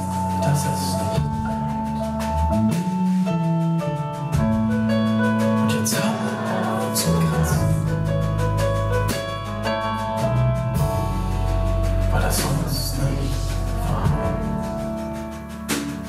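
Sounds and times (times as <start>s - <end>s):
bass line: 0.0s - 16.0s
piano notes: 0.0s - 16.0s.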